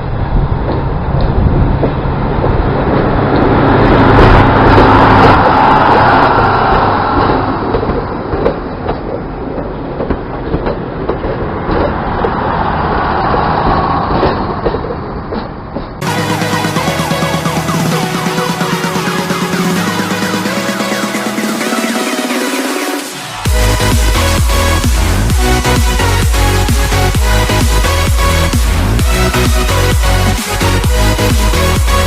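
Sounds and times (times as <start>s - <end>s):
diesel railcar engine drone: 0.0s - 32.0s
train wheel noise: 0.0s - 32.0s.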